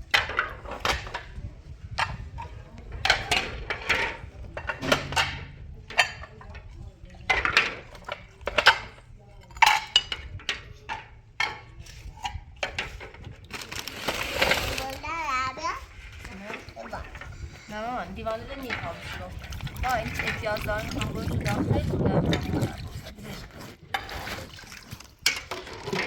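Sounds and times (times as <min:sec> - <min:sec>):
utensils and dishes clinking: 0:00.1 - 0:15.0, 0:16.1 - 0:26.0.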